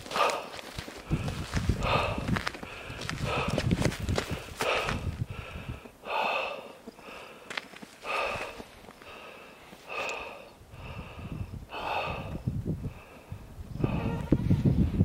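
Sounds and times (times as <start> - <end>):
heavy rhythmic breathing: 0.0 - 14.2.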